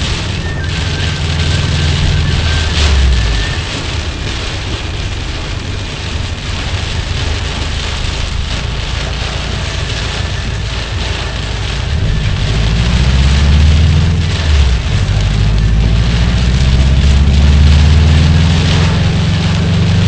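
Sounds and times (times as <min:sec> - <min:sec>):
car engine rumbling: 0:00.0 - 0:20.0
heavy rain drumming on car: 0:00.0 - 0:20.0
tyres hissing through water: 0:00.0 - 0:20.0.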